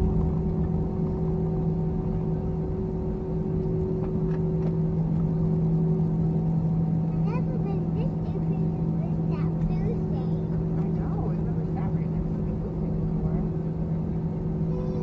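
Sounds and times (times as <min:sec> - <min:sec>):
steady low tone: 0:00.0 - 0:14.7
jet engines humming: 0:00.0 - 0:15.0.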